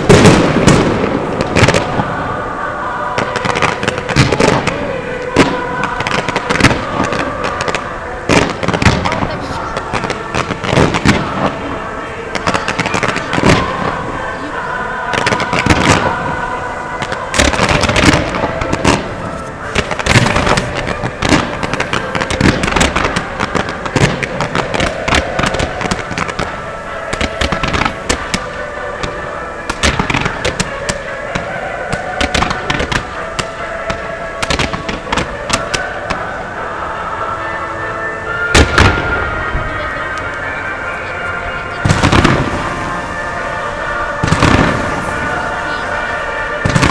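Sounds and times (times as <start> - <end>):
fireworks bangs and crackles: 0.0 - 46.9
music: 0.0 - 46.9.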